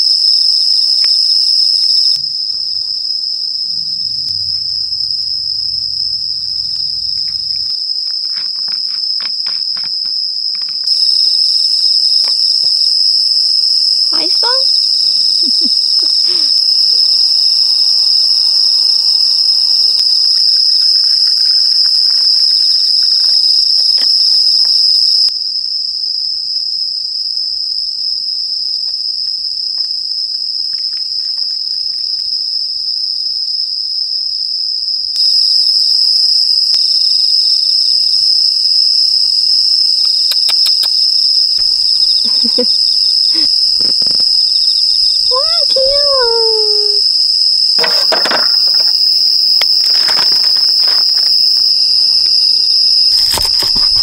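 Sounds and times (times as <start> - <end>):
night insects chirping: 0.0 - 54.0.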